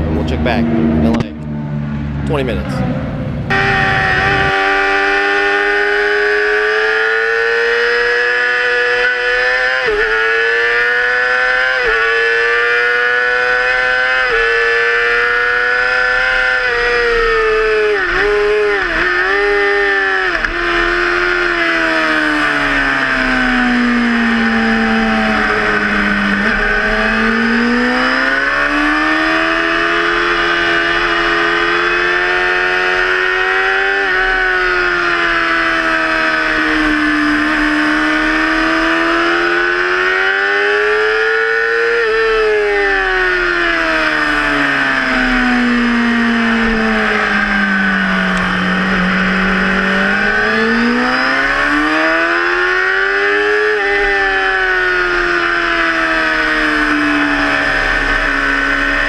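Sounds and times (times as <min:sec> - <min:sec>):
sport bike engine revving: 0:00.0 - 0:59.0
throttle blips on downshifts: 0:00.0 - 0:59.0.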